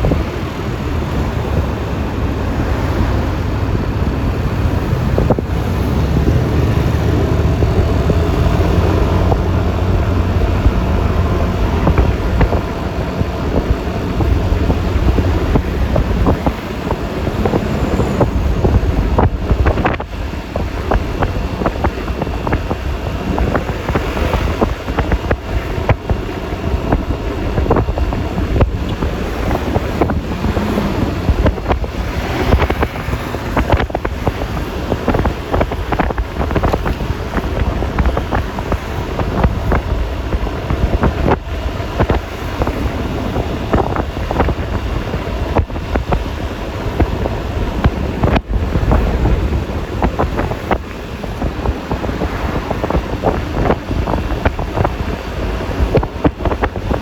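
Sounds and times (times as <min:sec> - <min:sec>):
scooter engine running: 0:00.0 - 0:57.0
tyre and road noise: 0:00.0 - 0:57.0
wind buffeting microphone: 0:00.0 - 0:57.0.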